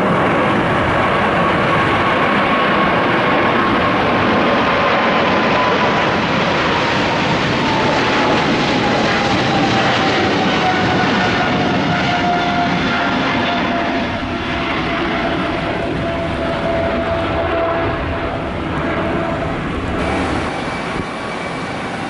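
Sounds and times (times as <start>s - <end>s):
falling engine whine: 0.0s - 22.0s
jet engine takeoff roar: 0.0s - 22.0s.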